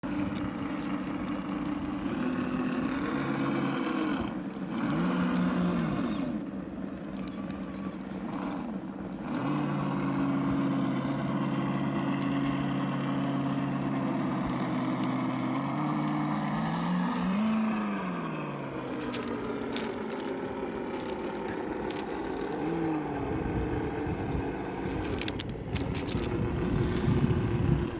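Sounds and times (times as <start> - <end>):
electric motor and gearbox whine: 0.0 - 27.9.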